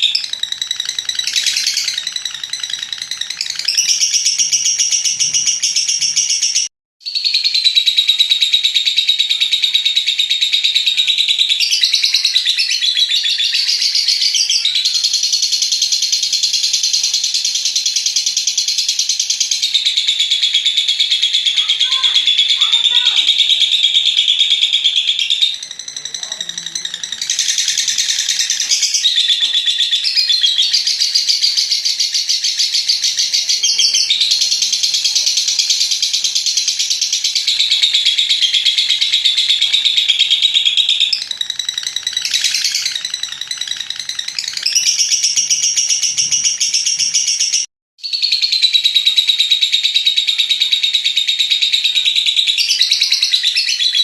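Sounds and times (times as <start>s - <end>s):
lovebird chattering trill: 0.0s - 54.0s.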